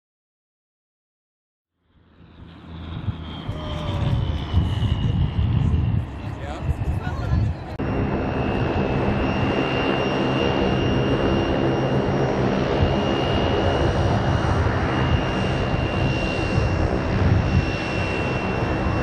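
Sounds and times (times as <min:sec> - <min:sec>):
turboprop turbine whine: 0:01.7 - 0:19.0
propeller hum: 0:01.8 - 0:19.0.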